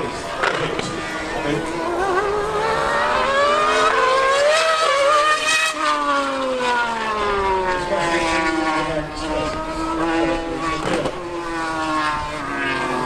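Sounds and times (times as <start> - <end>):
racing engine revving: 0.0 - 13.0.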